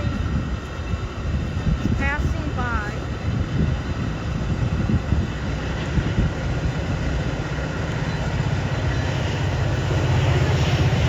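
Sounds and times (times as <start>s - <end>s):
diesel train rumbling past: 0.0s - 11.0s.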